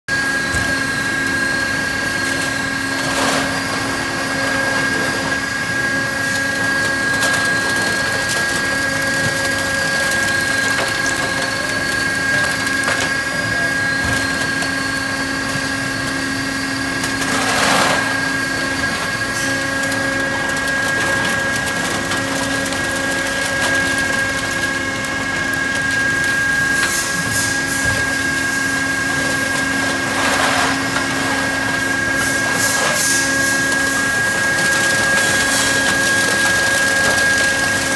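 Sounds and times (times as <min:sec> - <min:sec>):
baler machine hum: 0:00.1 - 0:37.9.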